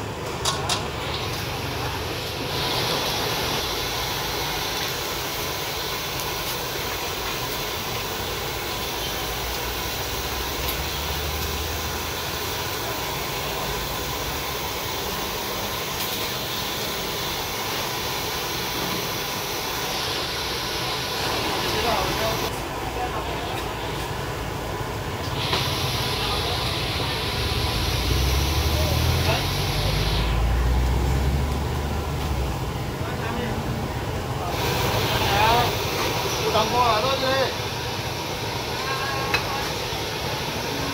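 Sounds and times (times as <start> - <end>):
dough deep-frying in oil: 0.0 - 40.9.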